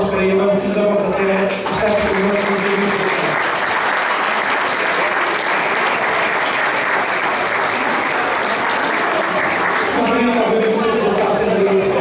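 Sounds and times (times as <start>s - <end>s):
audience applauding: 1.5s - 12.0s.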